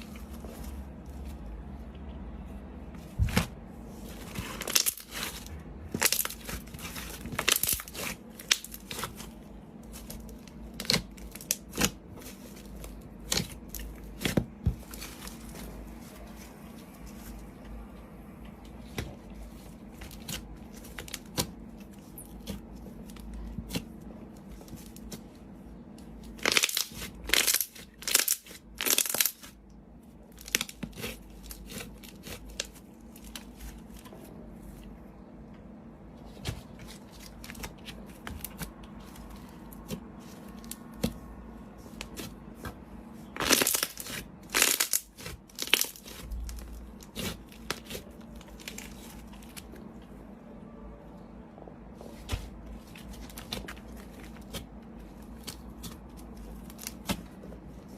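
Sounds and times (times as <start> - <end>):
slime crackling and squishing: 0.0 - 17.6, 18.5 - 35.0, 36.1 - 50.3, 51.9 - 57.9.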